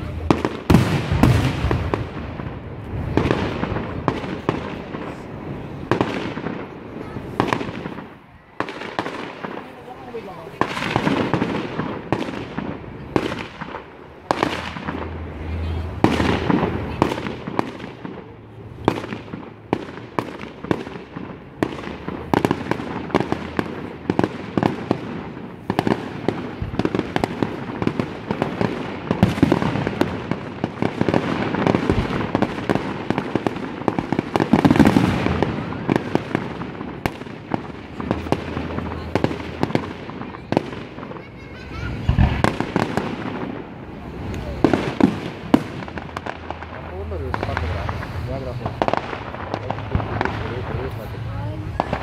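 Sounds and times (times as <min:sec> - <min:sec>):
fireworks bangs: 0:00.0 - 0:52.0
fireworks crackling: 0:00.0 - 0:52.0.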